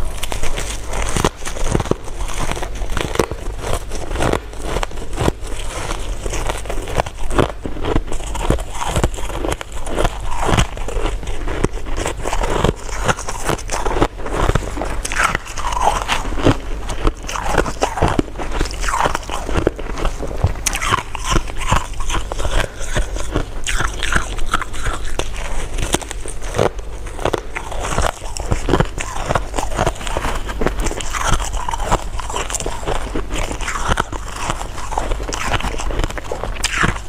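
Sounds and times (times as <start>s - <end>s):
chewing crunchy candy: 0.0s - 37.0s.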